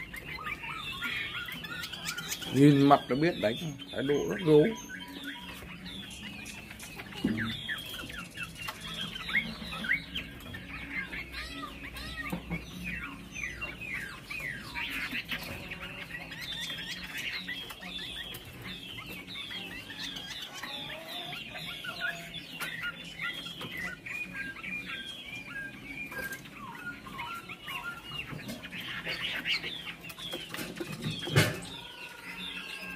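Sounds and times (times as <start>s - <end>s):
songbird whistled singing: 0.0s - 32.9s.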